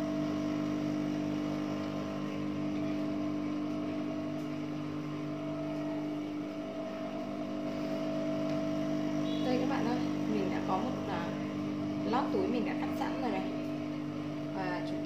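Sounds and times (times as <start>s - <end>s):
sewing machine motor humming: 0.0s - 15.0s.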